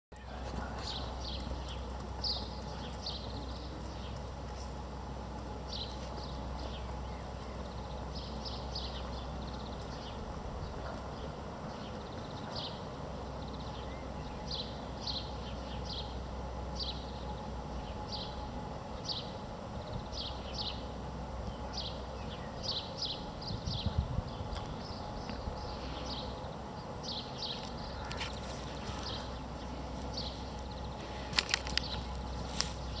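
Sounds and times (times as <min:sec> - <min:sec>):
steady low hum: 0:00.1 - 0:33.0.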